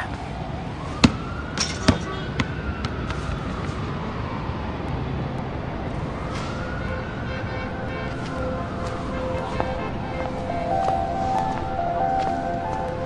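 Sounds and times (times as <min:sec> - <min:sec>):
faint siren: 0:00.0 - 0:13.0.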